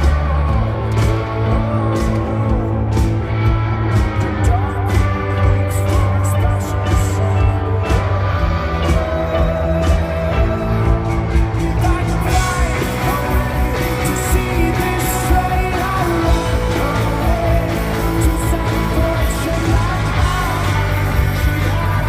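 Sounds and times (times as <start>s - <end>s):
person singing: 0.0s - 22.0s
rock band playing live: 0.0s - 22.0s.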